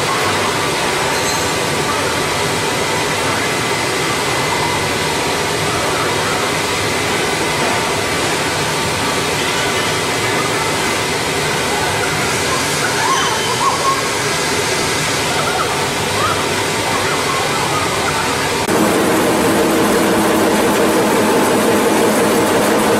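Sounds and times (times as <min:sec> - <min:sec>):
machinery rushing noise: 0:00.0 - 0:22.9.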